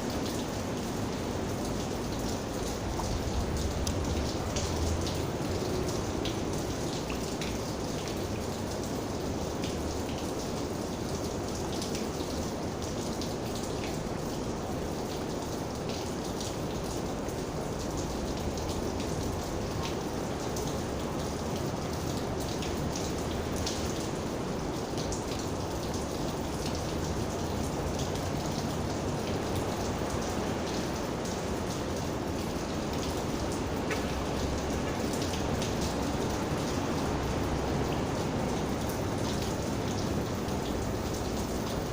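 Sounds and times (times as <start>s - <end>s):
raindrops ticking close by: 0.0s - 41.9s
steady rain hiss: 0.0s - 41.9s.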